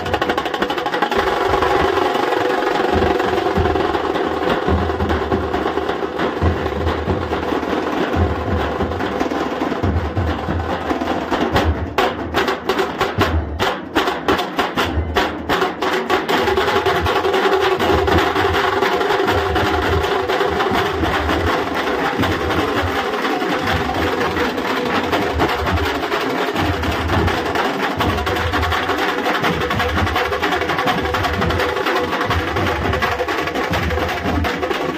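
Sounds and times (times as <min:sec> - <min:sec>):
barrel drums beaten with sticks: 0:00.0 - 0:34.9.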